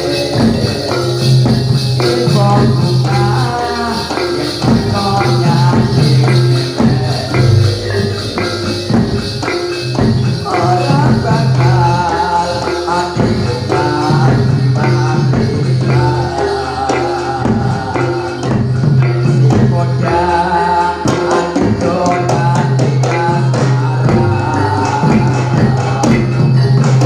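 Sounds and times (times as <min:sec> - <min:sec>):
drum strokes: 0:00.0 - 0:27.0
jingling percussion: 0:00.0 - 0:27.0
wavering melody: 0:00.0 - 0:27.0.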